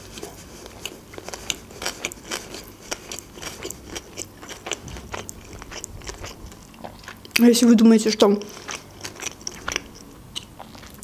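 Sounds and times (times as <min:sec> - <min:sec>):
wet chewing: 0:00.0 - 0:07.5, 0:08.2 - 0:11.0.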